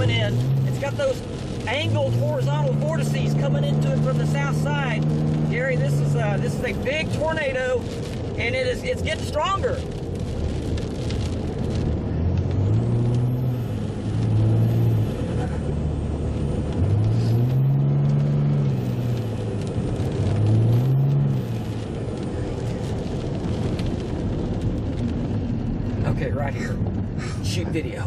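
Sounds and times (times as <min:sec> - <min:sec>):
car engine revving: 0:00.0 - 0:28.0
road noise rumble: 0:00.0 - 0:28.0.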